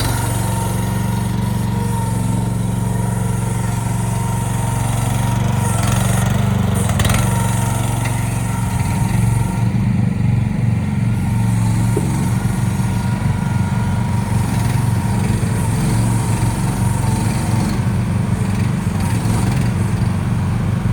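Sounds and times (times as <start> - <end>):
small engine running: 0.0 - 20.9.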